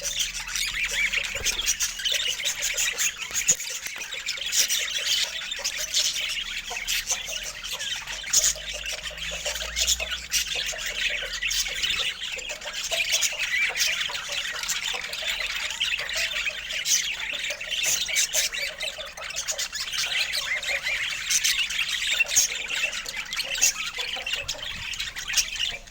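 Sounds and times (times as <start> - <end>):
budgerigars chattering and squawking: 0.0 - 25.9.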